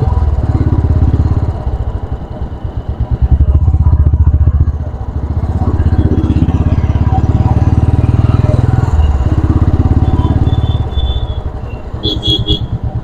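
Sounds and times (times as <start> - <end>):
motorcycle engine and exhaust: 0.0 - 13.0.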